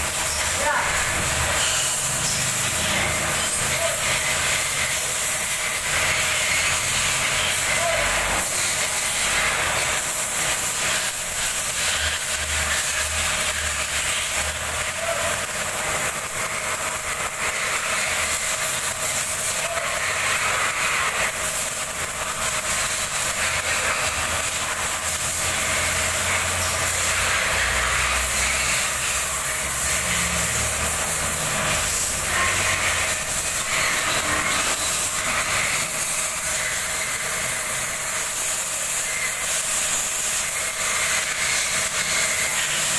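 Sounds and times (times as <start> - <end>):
welding arc crackling hiss: 0.0 - 42.9.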